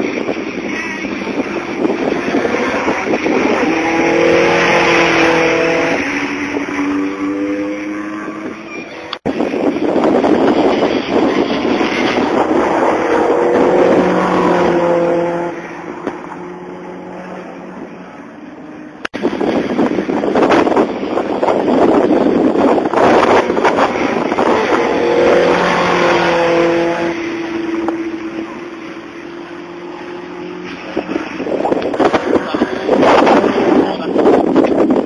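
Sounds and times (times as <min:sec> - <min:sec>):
race cars passing at speed: 0:00.0 - 0:35.0.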